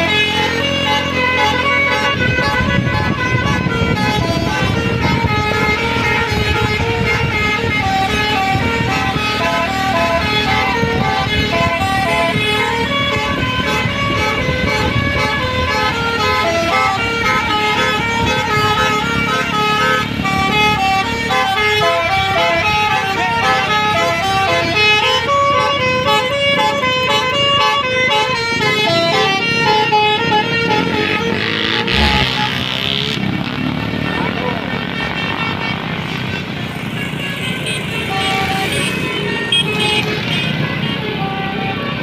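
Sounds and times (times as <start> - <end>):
multi-note air horn melody: 0.0 - 33.3, 34.1 - 42.0
bus engine at full throttle: 0.0 - 42.0.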